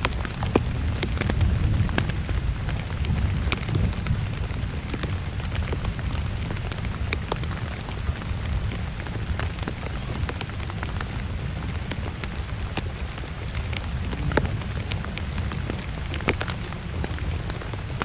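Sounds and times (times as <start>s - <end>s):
rain falling: 0.0s - 18.0s
raindrops striking close by: 0.0s - 18.0s.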